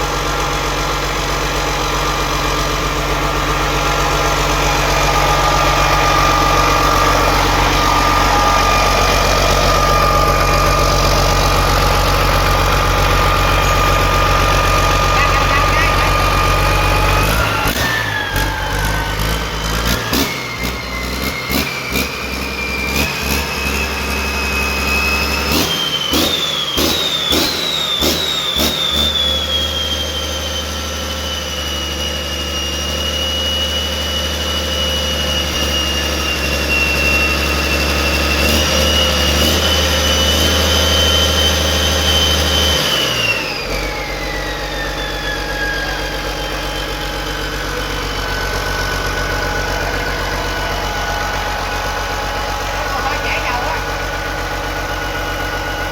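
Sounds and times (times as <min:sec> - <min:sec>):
engine running and revving: 0:00.0 - 0:55.9.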